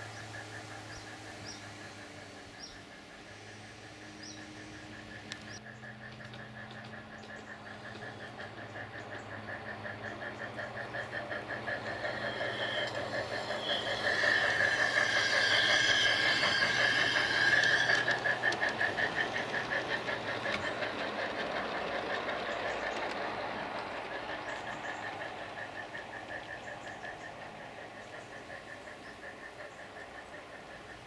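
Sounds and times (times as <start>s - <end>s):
rapid pulsing chirp: 0.0s - 31.0s
model train wheels clattering: 4.9s - 31.0s.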